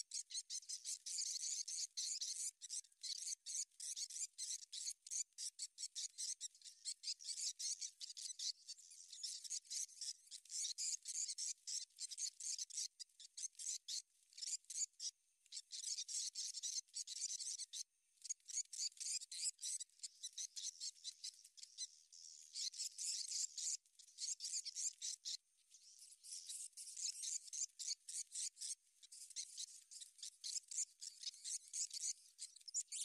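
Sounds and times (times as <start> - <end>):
flock of birds twittering: 0.0 - 33.0.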